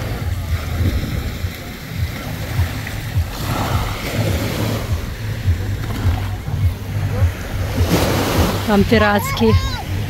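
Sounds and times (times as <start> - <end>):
small waves lapping on sand: 0.0 - 10.0
wind rumble on microphone: 0.0 - 10.0.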